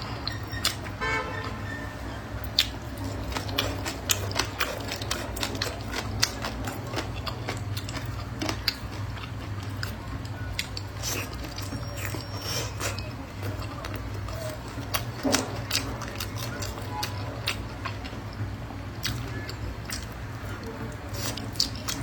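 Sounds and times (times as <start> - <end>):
chewing and crunching food: 2.4 - 22.0.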